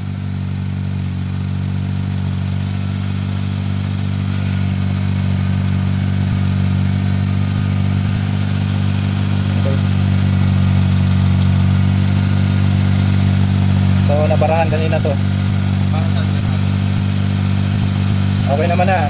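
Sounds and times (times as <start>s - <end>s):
small petrol engine idling: 0.0s - 19.0s.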